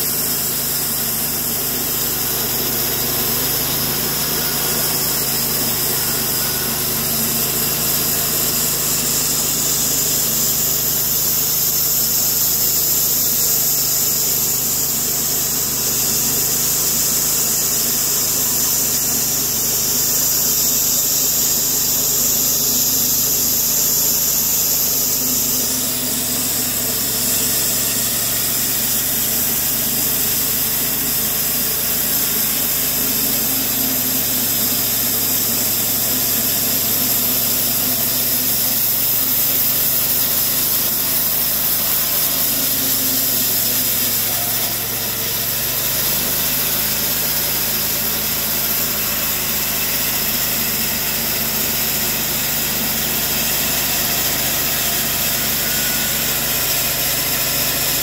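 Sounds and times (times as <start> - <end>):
band saw blade whining: 0.0 - 58.0
sawmill drive running: 0.0 - 58.0.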